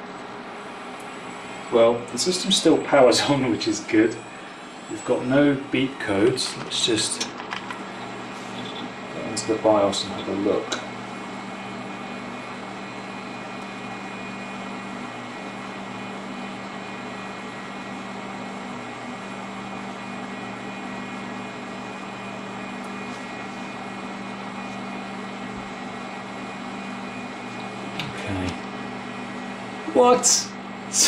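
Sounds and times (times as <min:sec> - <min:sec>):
computer fans and hard drive whirring: 0:00.0 - 0:31.0.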